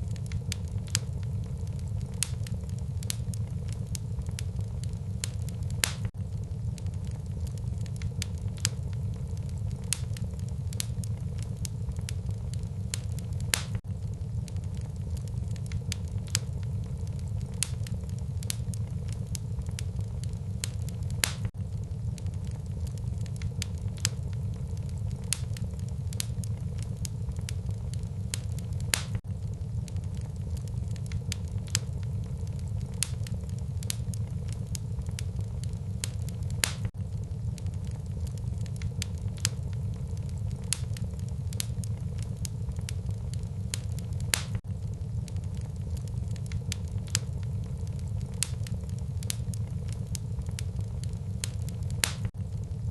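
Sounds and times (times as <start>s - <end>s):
loud fire pops: 0.0s - 52.9s
low rumble of flames: 0.0s - 52.9s
wood fire crackling: 0.0s - 52.9s.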